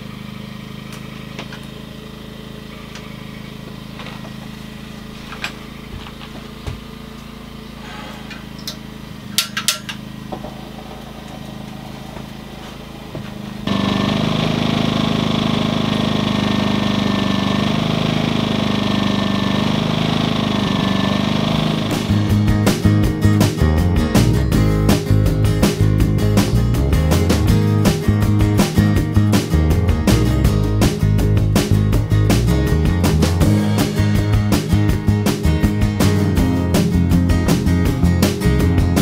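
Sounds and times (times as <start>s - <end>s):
portable generator engine running: 0.0s - 39.0s.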